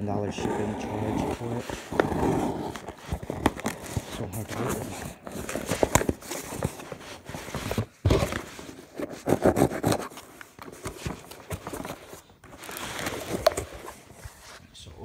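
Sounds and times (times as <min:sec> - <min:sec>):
cardboard flaps scraping: 0:00.2 - 0:14.7.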